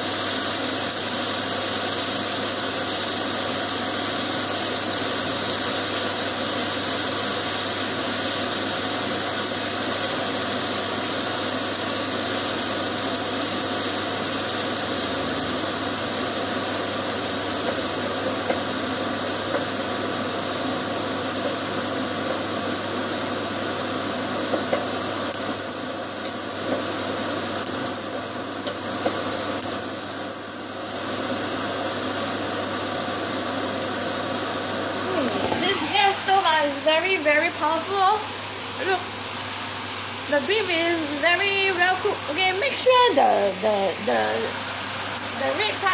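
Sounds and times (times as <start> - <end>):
beef sizzling in a pan: 0.0 - 45.9.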